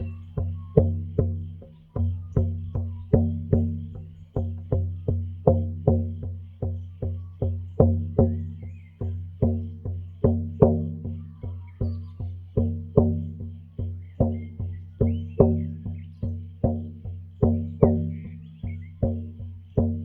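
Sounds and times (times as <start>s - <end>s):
frame drum beats: 0.0s - 20.0s.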